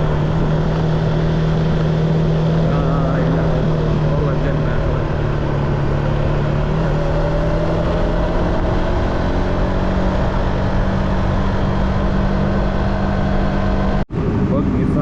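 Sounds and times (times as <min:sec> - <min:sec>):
car engine running: 0:00.0 - 0:15.0
road rumble: 0:00.0 - 0:15.0.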